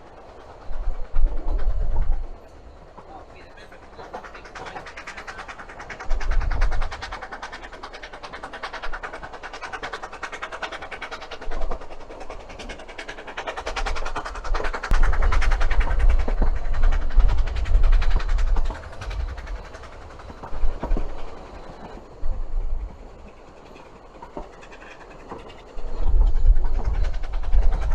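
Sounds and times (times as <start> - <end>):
railway wheels rattling: 0.0 - 27.9
wind buffeting microphone: 0.0 - 27.9.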